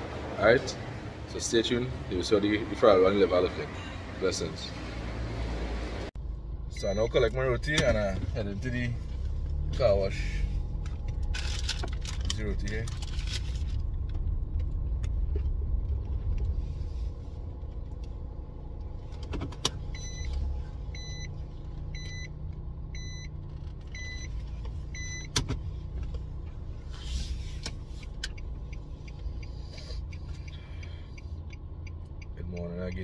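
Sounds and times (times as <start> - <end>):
car interior engine rumble: 0.0 - 33.0.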